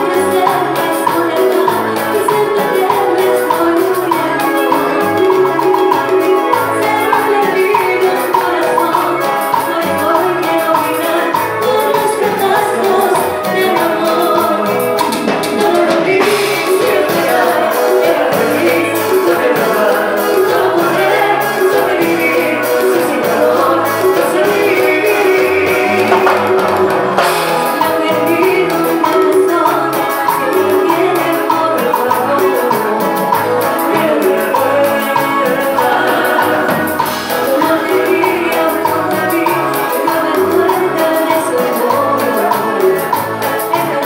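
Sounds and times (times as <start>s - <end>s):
drum kit: 0.0s - 44.0s
electric guitar: 0.0s - 44.0s
woman singing: 0.0s - 44.0s.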